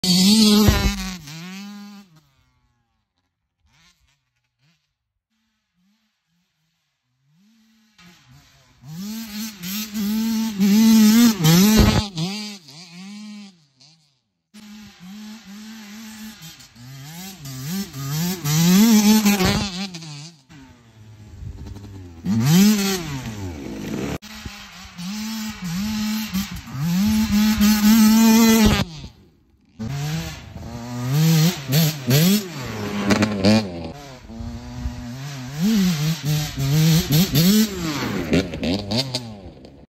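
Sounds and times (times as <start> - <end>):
dirt bike engine revving: 0.0 - 2.8, 3.6 - 39.9.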